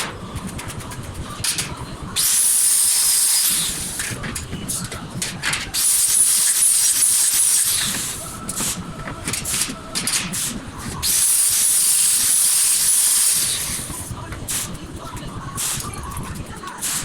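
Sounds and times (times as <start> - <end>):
welding arc crackling and hissing: 1.4 - 14.8, 15.5 - 16.2, 16.8 - 17.0.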